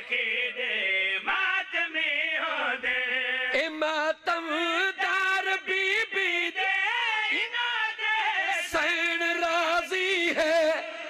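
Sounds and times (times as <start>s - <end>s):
men singing long held notes: 0.0s - 11.0s.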